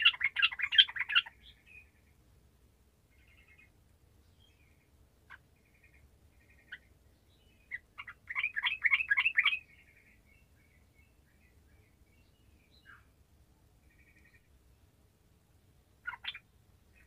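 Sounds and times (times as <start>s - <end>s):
bird singing: 0.0s - 2.2s, 3.1s - 13.2s, 13.8s - 14.8s, 16.0s - 17.0s.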